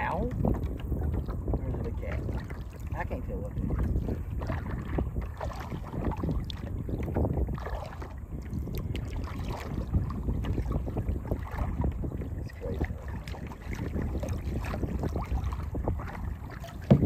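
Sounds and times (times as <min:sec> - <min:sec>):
water splashing around kayak: 0:00.0 - 0:17.0
wind rumbling on microphone: 0:00.0 - 0:17.0.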